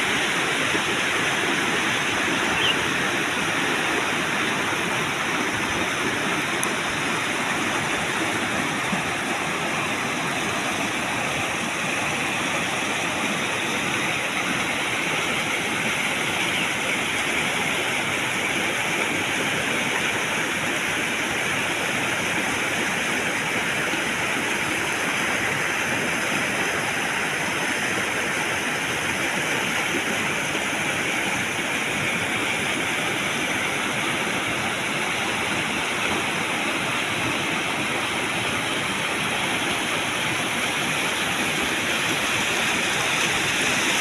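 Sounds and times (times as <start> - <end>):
river water rushing: 0.0 - 44.0.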